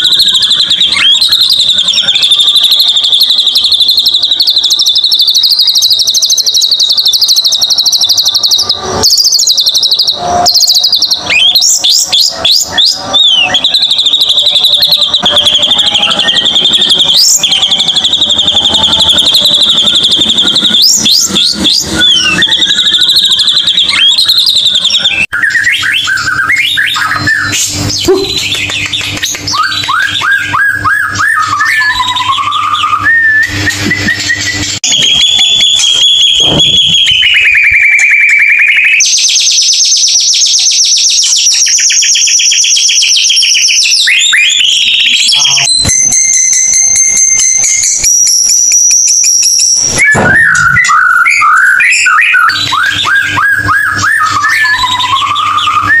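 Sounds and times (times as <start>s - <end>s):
bird song trills and whistles: 0.0s - 56.0s.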